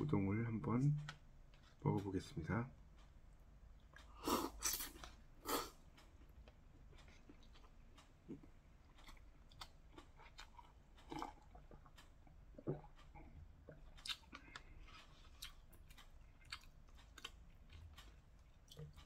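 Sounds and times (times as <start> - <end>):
person chewing noodles: 1.0 - 1.8, 3.7 - 19.0.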